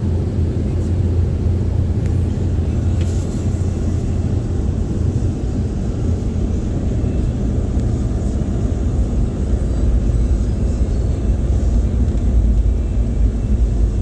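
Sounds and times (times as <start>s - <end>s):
car wash machinery rumbling: 0.0s - 14.0s.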